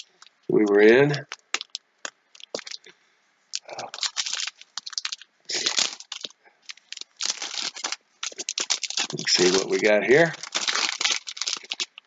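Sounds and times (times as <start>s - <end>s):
plastic bag crinkling: 0.0s - 2.9s, 3.5s - 12.0s.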